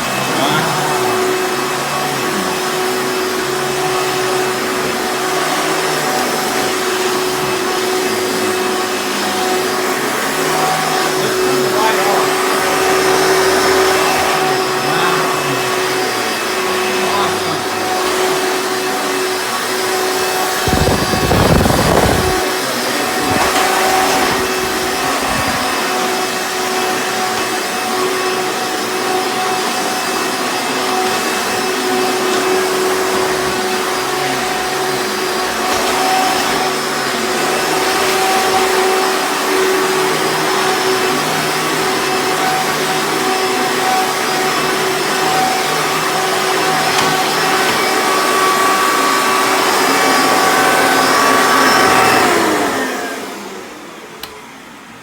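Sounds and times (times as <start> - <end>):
vacuum cleaner whining: 0.0 - 55.0.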